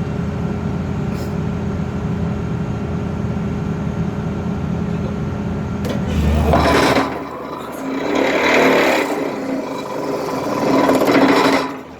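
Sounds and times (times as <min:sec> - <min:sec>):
pile driver and excavator engine: 0:00.0 - 0:11.9.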